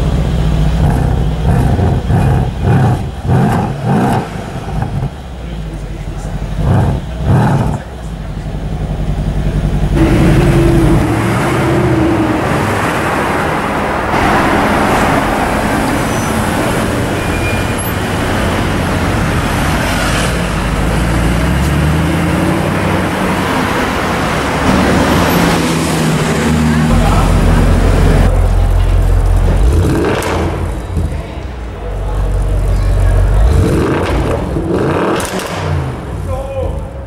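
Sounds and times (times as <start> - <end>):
car engine accelerating: 0.0 - 37.0
traffic noise: 0.0 - 37.0.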